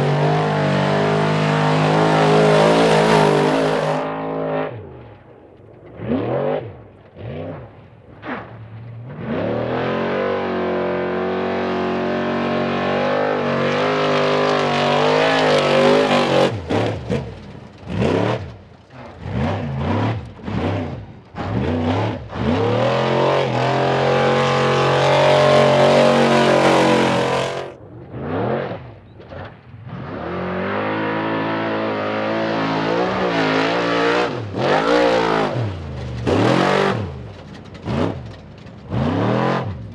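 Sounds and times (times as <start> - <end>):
race truck engines revving: 0.0 - 5.2, 5.8 - 39.9.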